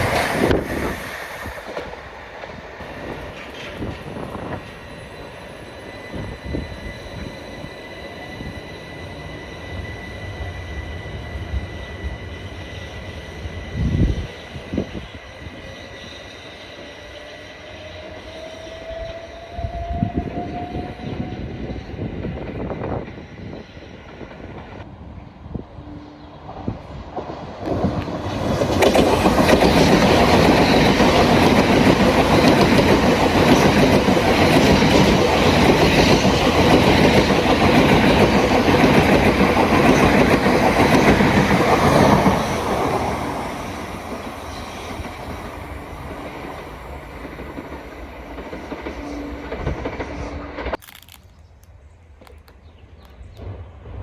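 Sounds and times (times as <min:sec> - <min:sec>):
train wheels rushing on rail: 0:00.0 - 0:50.8.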